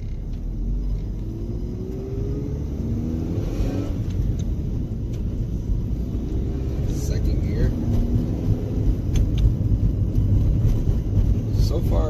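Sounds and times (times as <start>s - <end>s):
car engine revving: 0.0s - 12.0s
road rumble: 0.0s - 12.0s.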